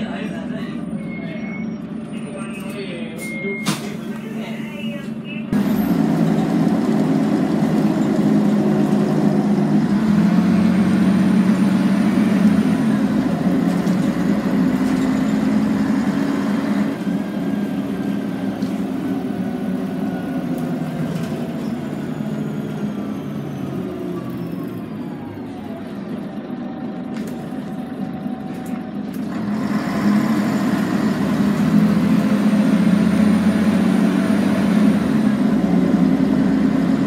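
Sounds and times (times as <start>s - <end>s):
bus diesel engine running: 0.0s - 37.0s.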